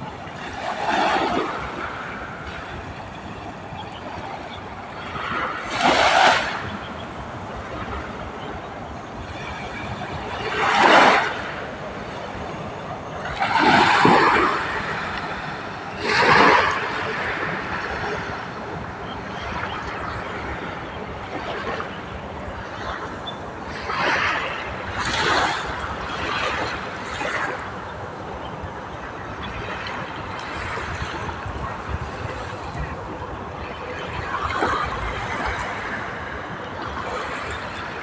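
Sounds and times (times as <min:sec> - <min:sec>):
small waves washing ashore: 0:00.0 - 0:38.0.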